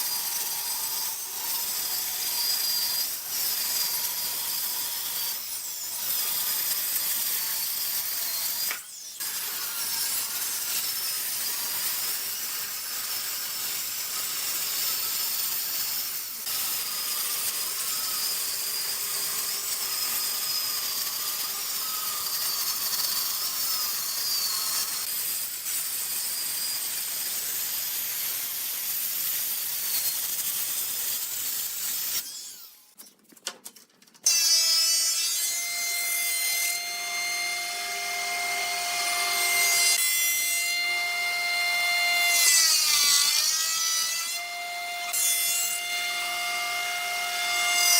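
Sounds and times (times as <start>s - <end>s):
power tool whining on wood: 0.0s - 33.0s, 34.2s - 47.9s.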